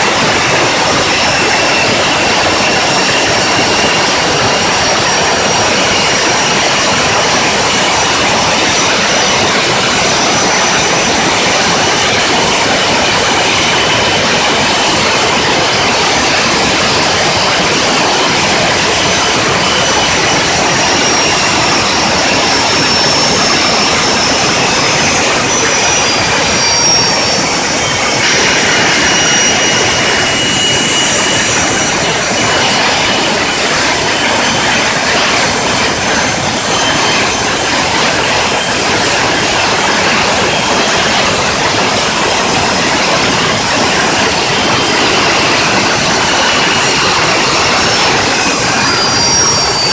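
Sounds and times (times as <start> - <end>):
high engine whine: 0.0 - 49.9
jet engine roar: 0.0 - 49.9.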